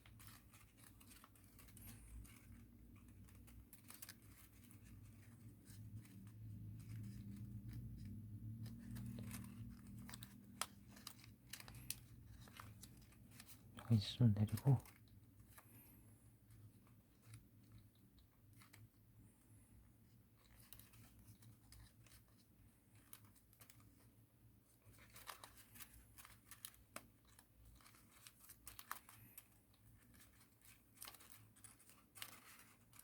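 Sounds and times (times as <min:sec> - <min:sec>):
paper rustling and crinkling: 0:00.0 - 0:33.0.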